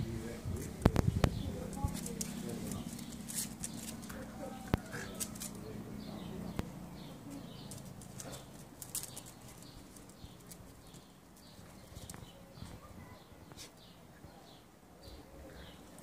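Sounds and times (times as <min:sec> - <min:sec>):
small birds chirping: 0:00.0 - 0:16.0
dog paws on brick paving: 0:00.4 - 0:13.9.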